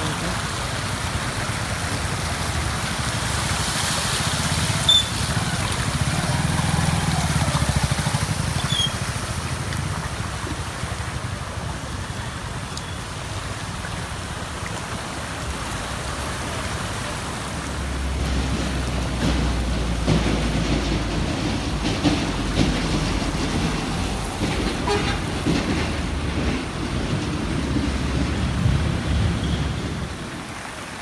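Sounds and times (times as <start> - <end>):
floodwater rushing: 0.0 - 31.0
rain falling: 0.0 - 31.0.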